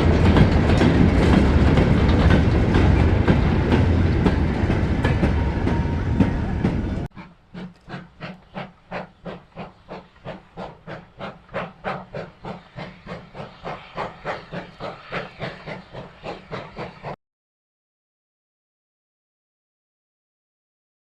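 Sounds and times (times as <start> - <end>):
loud train passing: 0.0 - 17.2
steam locomotive exhaust beats: 0.0 - 17.2.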